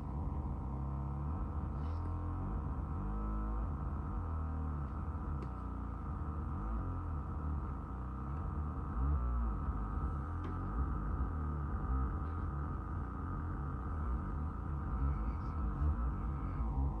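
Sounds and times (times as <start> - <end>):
low droning synthesizer: 0.0 - 17.0.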